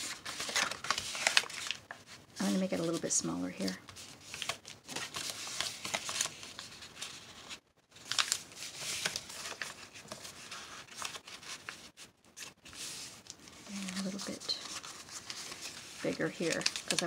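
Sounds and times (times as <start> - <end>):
paper rustling and crinkling: 0.0 - 17.0.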